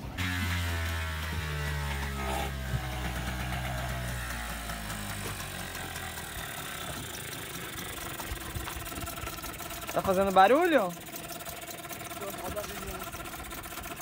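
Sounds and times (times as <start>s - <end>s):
small outboard motor running: 0.0s - 14.0s.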